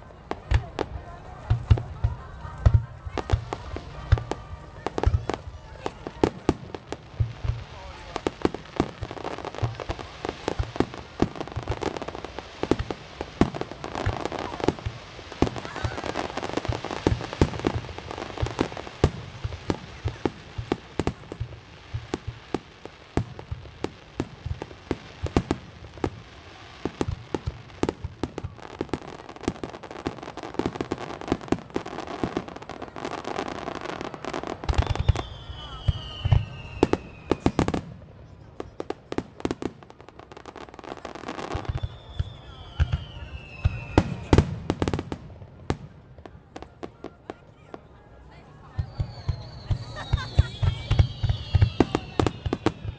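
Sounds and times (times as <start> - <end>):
fireworks bangs and pops: 0.0 - 47.9, 48.6 - 52.9.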